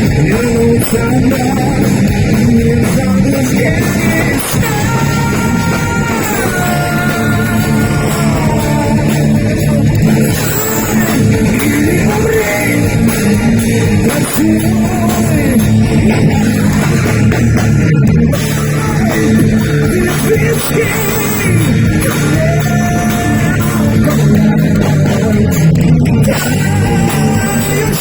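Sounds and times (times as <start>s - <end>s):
electric guitar: 0.0s - 28.0s
heavy metal band playing: 0.0s - 28.0s.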